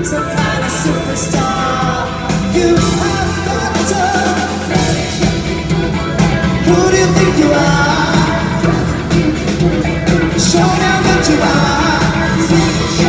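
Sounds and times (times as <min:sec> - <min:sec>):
pop song with singing: 0:00.0 - 0:13.0.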